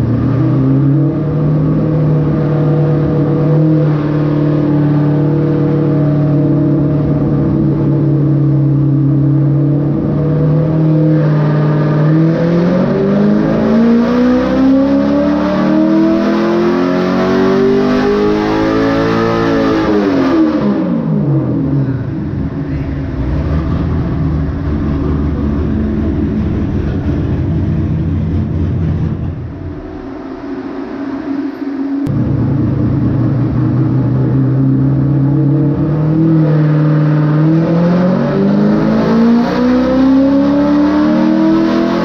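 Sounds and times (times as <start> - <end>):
v-eight engine revving on dyno: 0.0 - 42.0.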